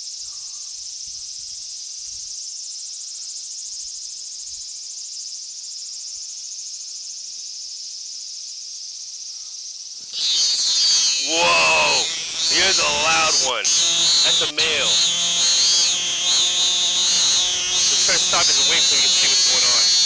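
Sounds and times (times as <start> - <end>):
cicadas singing: 0.0 - 20.0.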